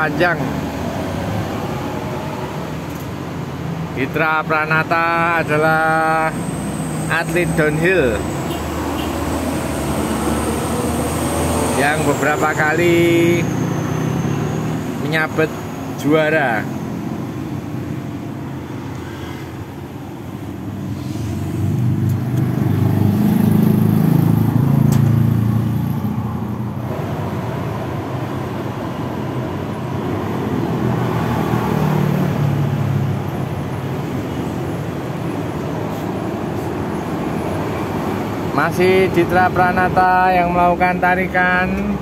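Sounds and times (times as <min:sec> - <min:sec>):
engine and tyre rumble: 0:00.0 - 0:42.0
road and wind noise: 0:00.0 - 0:42.0.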